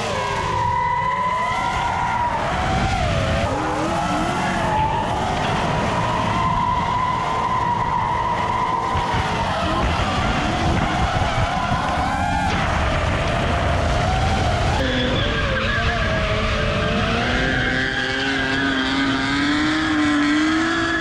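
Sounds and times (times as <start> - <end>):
car engine and tyre noise drifting: 0.0 - 21.0
drone propellers whining: 0.0 - 21.0.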